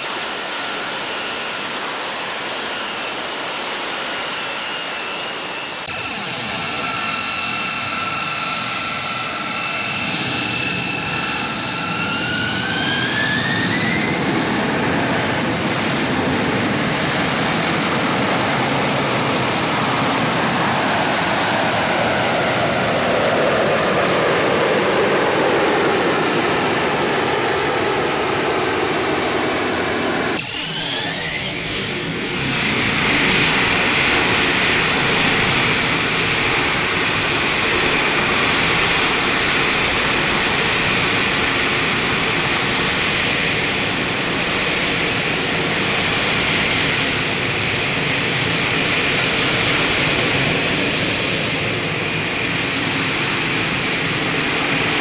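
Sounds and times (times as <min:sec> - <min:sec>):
high jet whine: 0:00.0 - 0:55.0
jet engine roar: 0:00.0 - 0:55.0.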